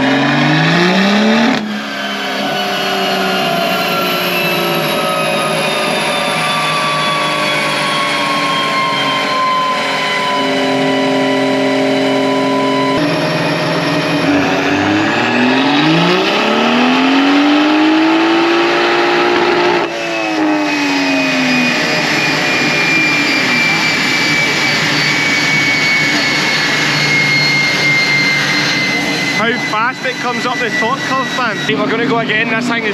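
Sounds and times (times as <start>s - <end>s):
car engine revving on dyno: 0.0s - 32.9s.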